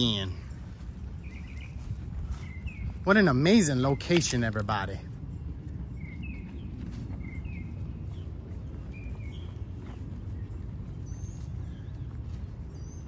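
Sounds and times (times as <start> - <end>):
high bird chirps: 0.0 - 4.6, 5.2 - 13.0
low outdoor rumble: 0.0 - 13.0.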